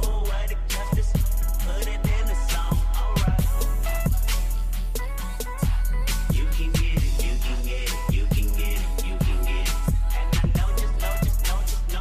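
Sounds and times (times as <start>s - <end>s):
hip hop music: 0.0s - 12.0s.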